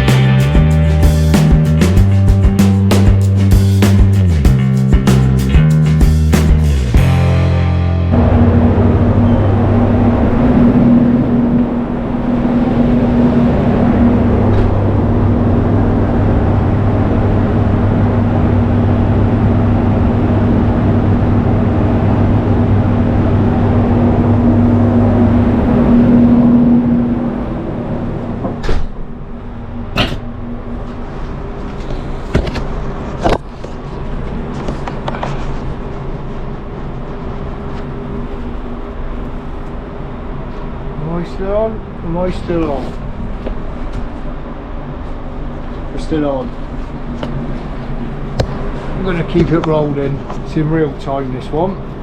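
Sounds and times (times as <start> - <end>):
low hum with held tones: 7.0 - 52.0.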